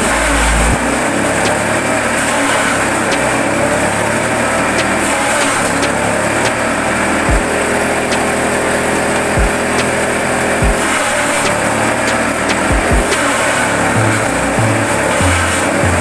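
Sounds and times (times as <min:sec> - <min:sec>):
forage chopper motor hum: 0:00.0 - 0:16.0.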